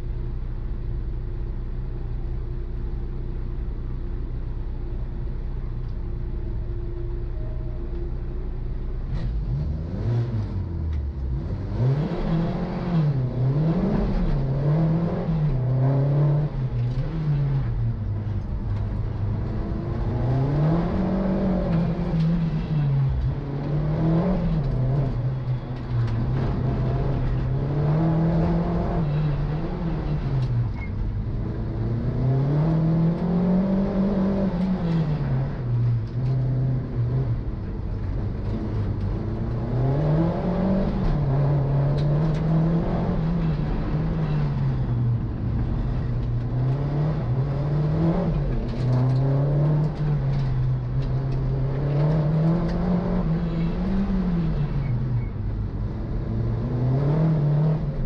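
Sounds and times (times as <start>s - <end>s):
car engine accelerating: 4.2s - 58.0s.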